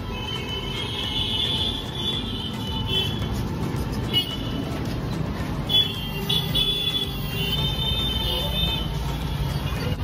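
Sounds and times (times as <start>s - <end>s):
road traffic rumbling: 0.0s - 10.0s.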